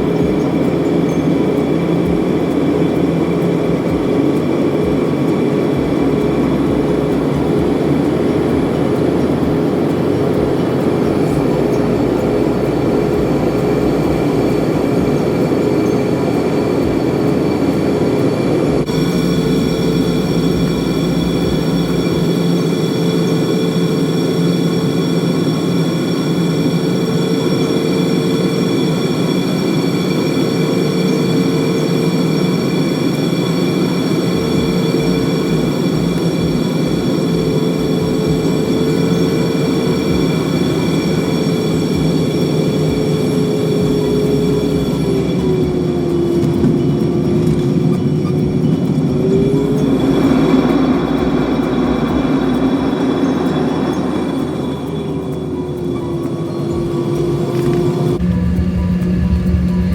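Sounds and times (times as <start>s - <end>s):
jet cabin air rush: 0.0s - 59.9s
jet engines humming: 0.0s - 59.9s.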